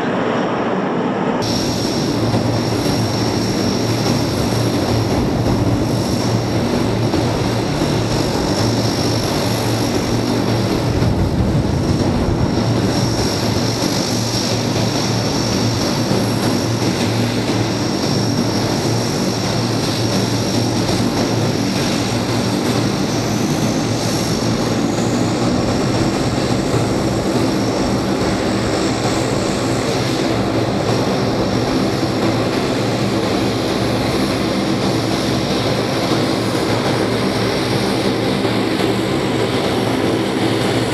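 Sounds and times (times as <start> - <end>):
turboprop plane engines: 0.0 - 40.9.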